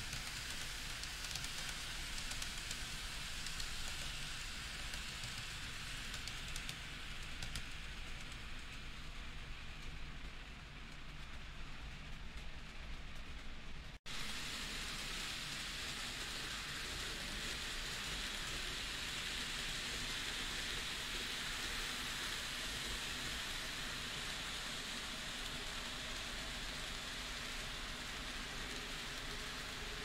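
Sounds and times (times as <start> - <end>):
model trains whirring: 0.0 - 30.0.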